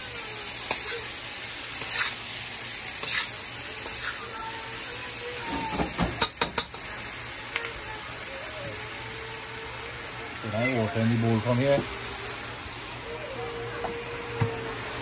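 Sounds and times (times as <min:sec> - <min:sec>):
onions sizzling in a wok: 0:00.0 - 0:15.0.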